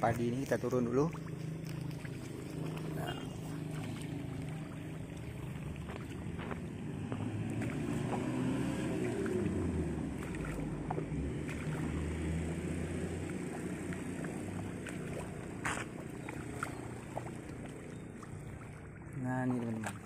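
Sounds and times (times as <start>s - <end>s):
footsteps sloshing through water: 0.0s - 20.0s.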